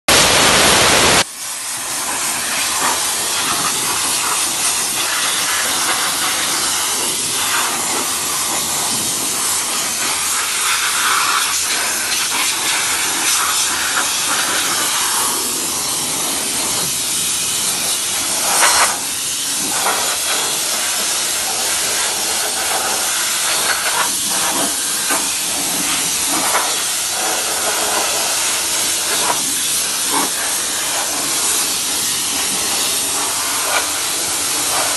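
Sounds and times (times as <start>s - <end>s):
steam cleaner hissing: 0.1s - 34.9s.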